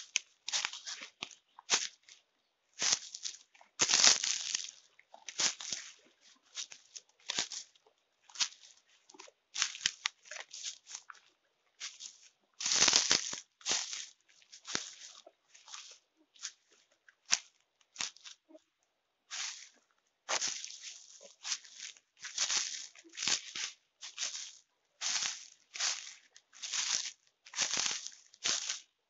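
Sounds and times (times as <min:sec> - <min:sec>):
footsteps crunching dry leaves: 0:00.0 - 0:02.2, 0:02.8 - 0:18.4, 0:19.3 - 0:29.0.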